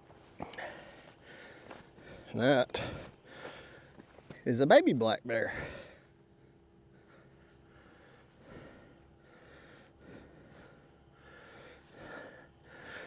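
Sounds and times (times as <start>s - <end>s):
faint breaths: 0.2s - 4.5s, 5.4s - 13.0s.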